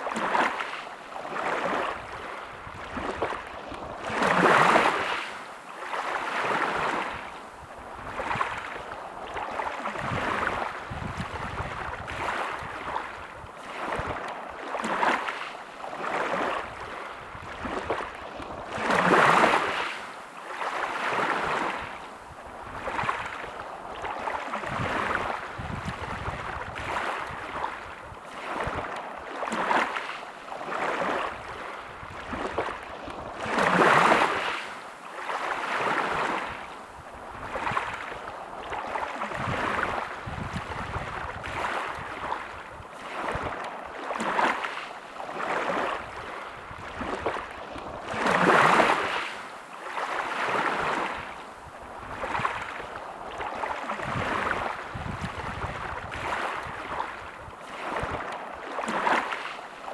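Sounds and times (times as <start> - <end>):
big waves breaking: 0.0 - 59.9
sea waves washing onto beach: 0.0 - 59.9.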